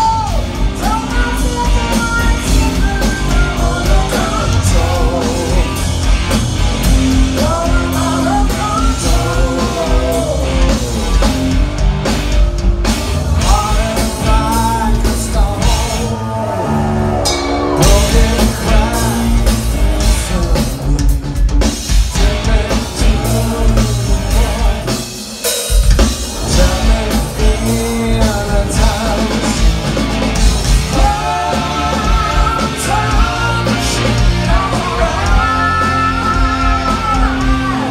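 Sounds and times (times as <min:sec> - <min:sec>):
sung lead vocal: 0:00.0 - 0:12.5, 0:13.2 - 0:37.9
rock band playing: 0:00.0 - 0:37.9.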